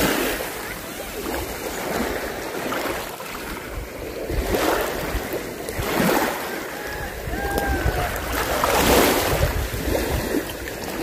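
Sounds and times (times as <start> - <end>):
waves washing onto shore: 0.0 - 11.0
wind rumbling on microphone: 0.0 - 11.0.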